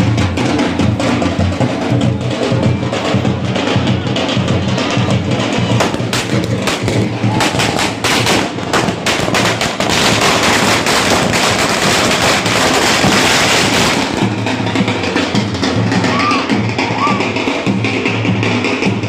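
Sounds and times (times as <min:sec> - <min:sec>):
firecrackers banging and crackling: 0:00.0 - 0:19.0.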